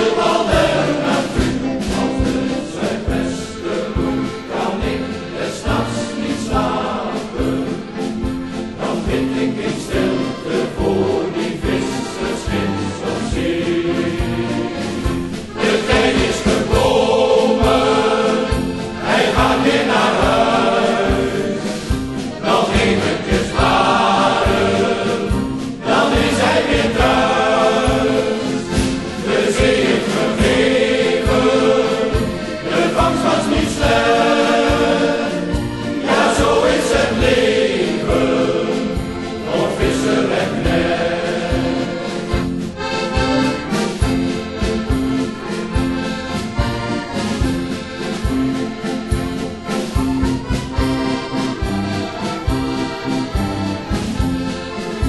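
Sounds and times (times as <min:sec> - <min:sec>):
instrumental accompaniment with beat: 0:00.0 - 0:55.0
men's choir singing: 0:00.0 - 0:55.0.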